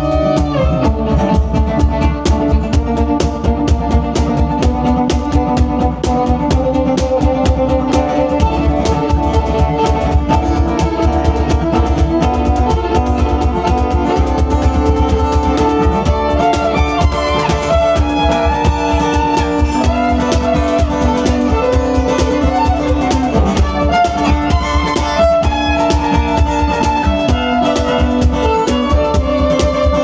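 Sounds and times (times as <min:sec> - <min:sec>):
fiddle: 0:00.0 - 0:30.0
guitar: 0:00.0 - 0:30.0
quick drum beat: 0:00.0 - 0:30.0.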